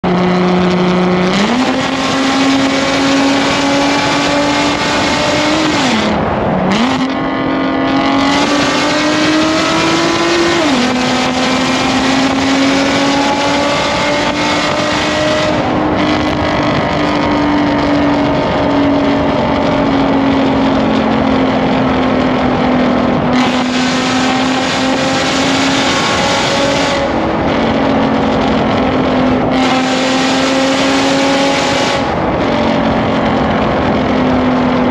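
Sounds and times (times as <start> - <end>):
car exhaust at high revs: 0.0 - 34.9.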